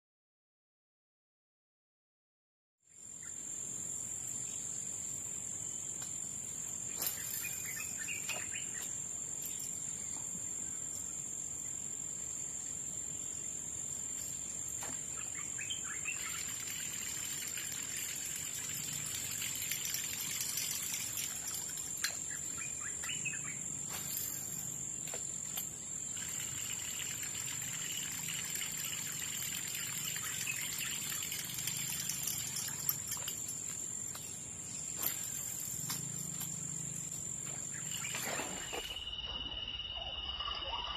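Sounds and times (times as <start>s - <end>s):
birds chirping: 4.5s - 11.9s, 13.1s - 40.9s
high-pitched insect drone: 6.6s - 40.9s.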